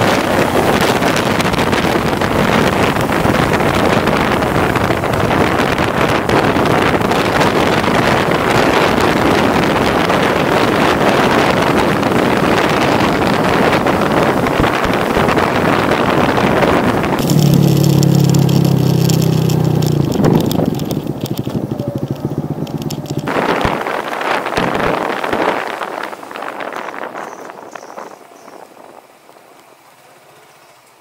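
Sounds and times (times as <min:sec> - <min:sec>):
wind on microphone: 0:00.0 - 0:29.4
scooter engine and road noise: 0:00.0 - 0:31.0.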